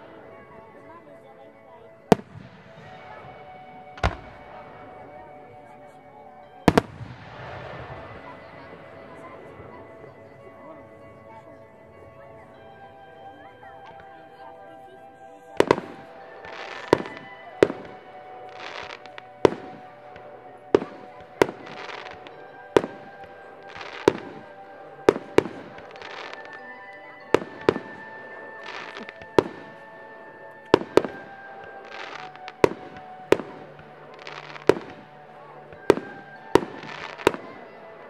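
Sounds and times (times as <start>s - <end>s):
music with long held notes: 0.0s - 38.0s
fireworks bursting: 2.0s - 10.6s, 15.5s - 38.0s.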